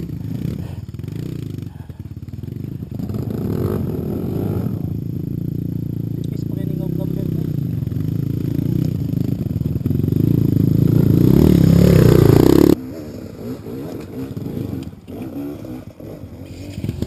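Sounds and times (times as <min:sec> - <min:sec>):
dirt bike engine revving: 0:00.0 - 0:17.0
faint dirt bike engine: 0:00.0 - 0:17.0.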